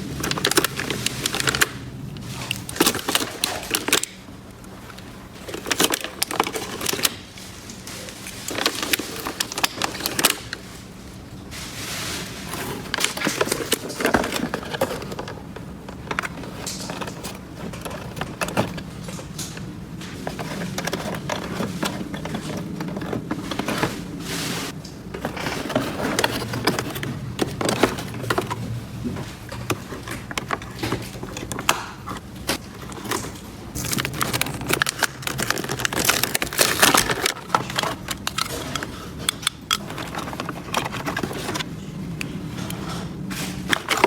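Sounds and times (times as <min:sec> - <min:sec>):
rustling: 0:00.0 - 0:44.0.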